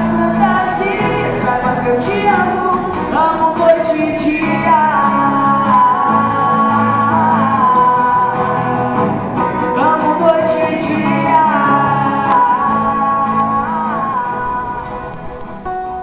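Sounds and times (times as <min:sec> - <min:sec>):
sliding held melody line: 0:00.0 - 0:16.0
song with guitar: 0:00.0 - 0:16.0.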